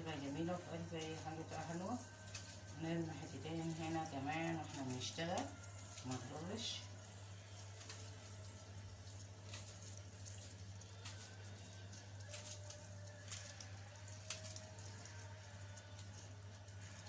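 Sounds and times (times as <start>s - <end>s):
meat frying in oil: 0.0s - 17.0s.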